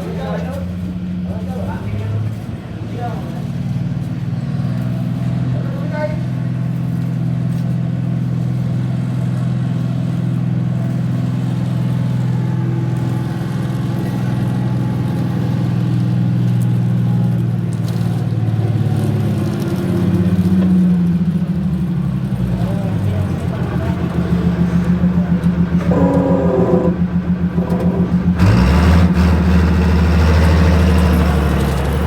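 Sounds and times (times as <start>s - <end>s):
road roller diesel engine running: 0.0s - 32.0s.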